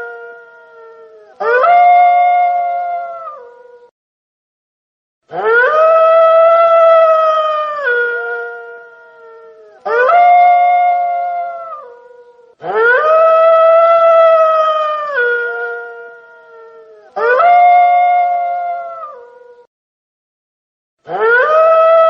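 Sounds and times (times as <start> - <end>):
wolf howling: 0.0 - 3.9, 5.3 - 19.7, 21.1 - 22.0.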